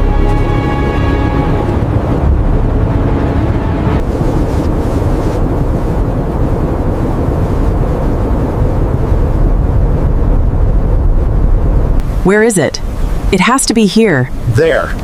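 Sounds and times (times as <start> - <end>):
strong blizzard wind blowing: 0.0 - 15.0.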